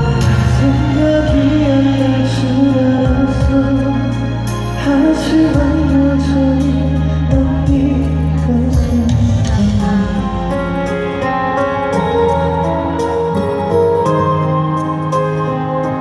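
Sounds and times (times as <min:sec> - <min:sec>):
bass and keyboard chords: 0:00.0 - 0:16.0
man singing ballad: 0:00.0 - 0:16.0.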